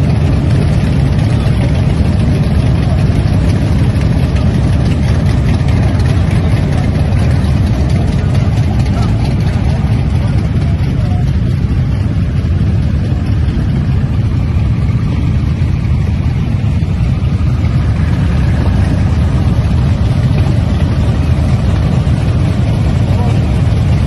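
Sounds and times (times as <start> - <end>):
motorcycle engines idling: 0.0 - 24.0.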